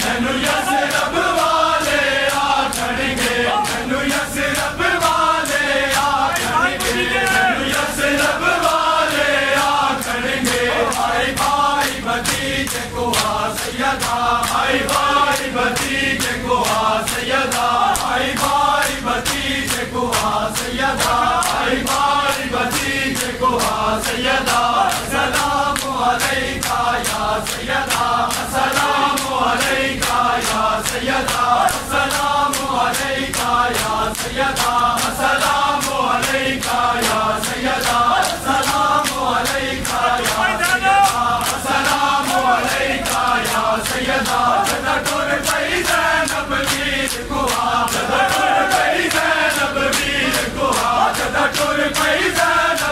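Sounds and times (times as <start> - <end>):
men chanting in unison: 0.0 - 52.9.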